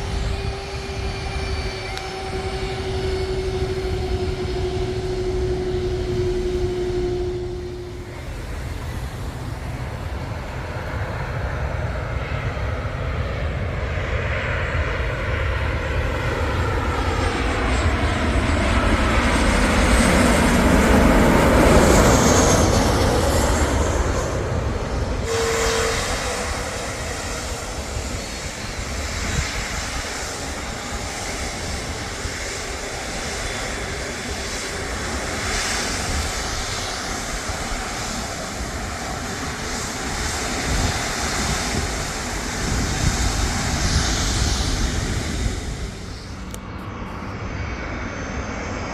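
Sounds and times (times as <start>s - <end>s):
airliner engine whine passing overhead: 0.0s - 48.9s.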